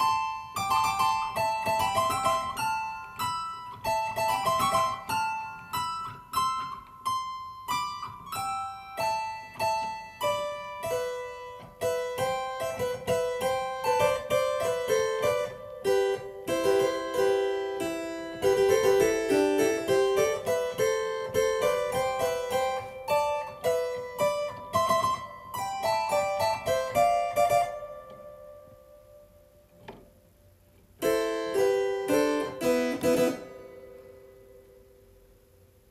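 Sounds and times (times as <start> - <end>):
harpsichord melody: 0.0 - 29.4, 31.0 - 35.2.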